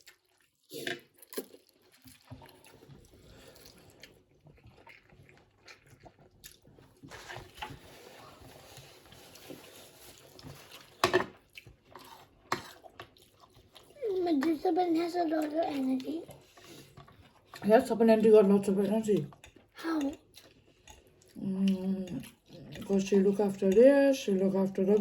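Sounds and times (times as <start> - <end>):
quiet chewing: 0.0 - 25.0.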